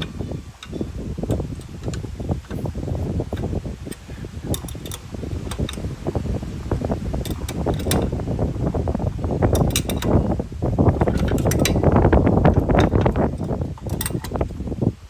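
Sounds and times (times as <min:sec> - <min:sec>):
ratchet wrench clicking: 0:00.0 - 0:08.2, 0:09.4 - 0:14.5.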